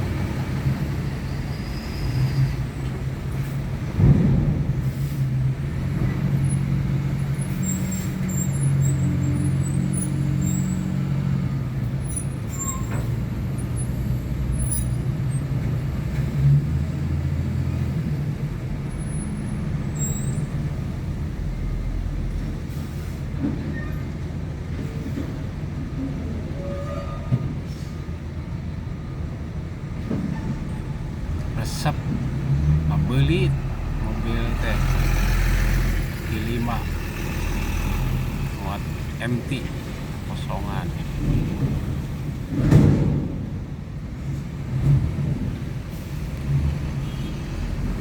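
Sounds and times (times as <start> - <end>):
truck engine drone: 0.0 - 26.6, 27.4 - 48.0.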